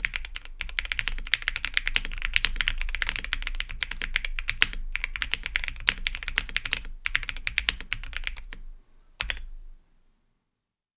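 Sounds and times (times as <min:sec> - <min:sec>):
fast typing on mechanical keyboard: 0:00.0 - 0:08.6, 0:09.2 - 0:09.5.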